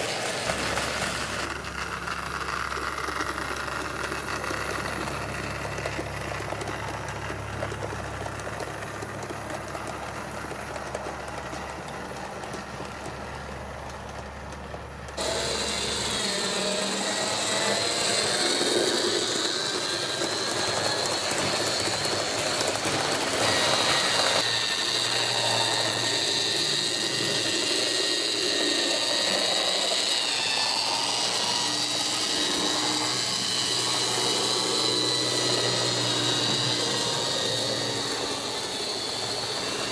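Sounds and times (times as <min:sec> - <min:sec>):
model train motor whining: 0:00.0 - 0:39.9.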